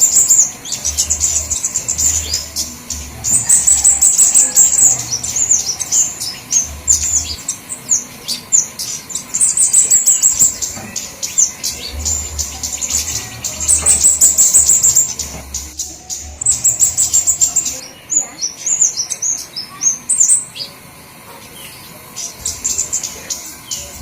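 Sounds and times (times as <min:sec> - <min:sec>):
flowerpeckers chattering: 0:00.0 - 0:24.0.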